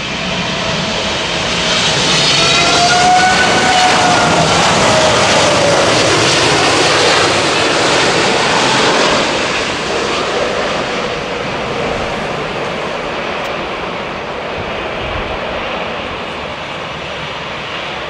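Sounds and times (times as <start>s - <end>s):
jet engine whine dropping: 0.0s - 18.0s
jet engines roaring: 0.0s - 18.0s.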